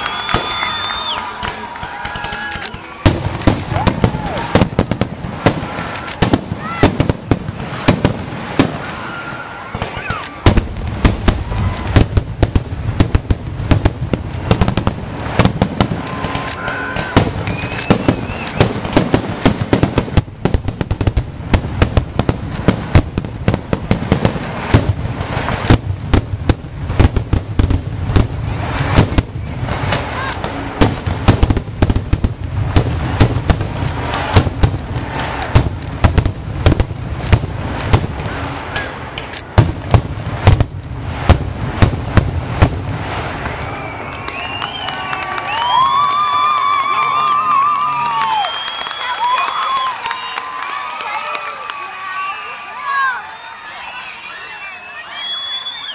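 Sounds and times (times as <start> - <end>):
fireworks bangs and crackle: 0.0 - 55.9.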